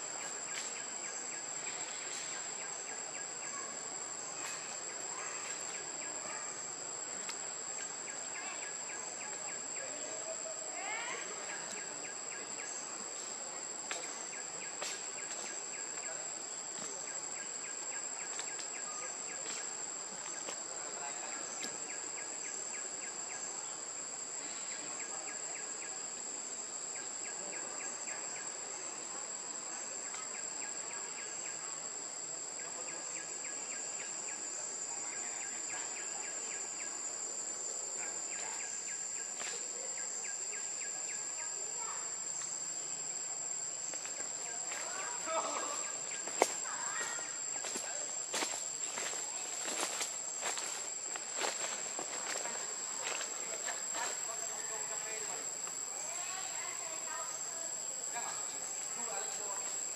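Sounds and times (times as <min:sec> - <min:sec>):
insects whining and chirping: 0:00.0 - 0:59.9.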